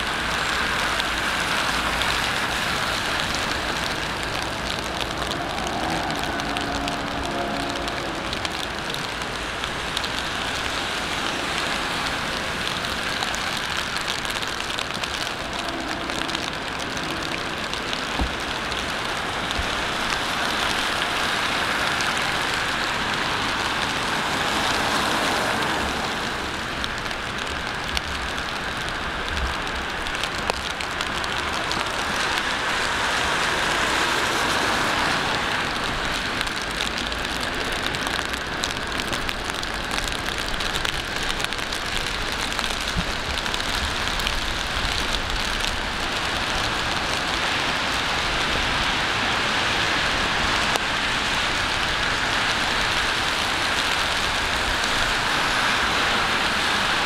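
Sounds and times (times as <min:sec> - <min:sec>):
low traffic rumble: 0:00.0 - 0:57.0
rain on hard surfaces: 0:00.0 - 0:57.0.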